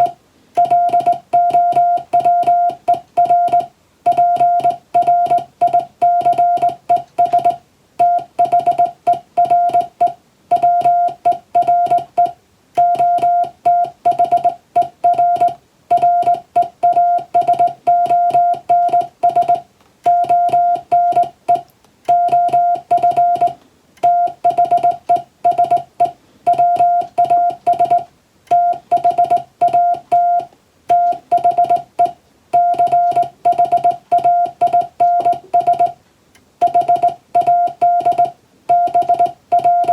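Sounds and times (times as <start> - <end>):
morse code beeps: 0.0 - 36.0, 36.6 - 39.9.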